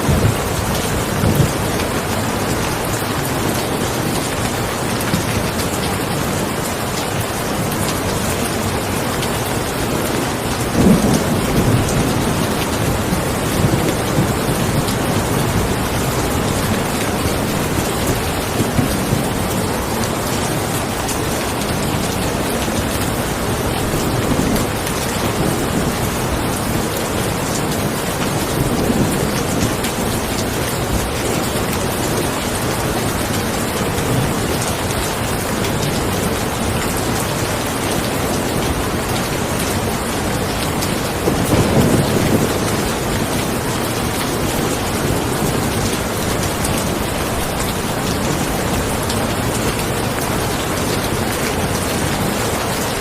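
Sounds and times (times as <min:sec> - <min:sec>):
thunder rumbling: 0:00.0 - 0:06.4, 0:08.5 - 0:37.8, 0:38.4 - 0:53.0
steady rain falling: 0:00.0 - 0:53.0.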